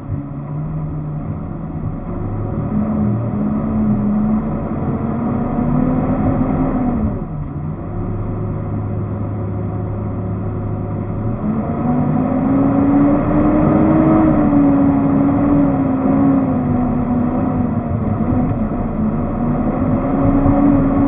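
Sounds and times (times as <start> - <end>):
vehicle engine humming and revving: 0.0 - 21.0.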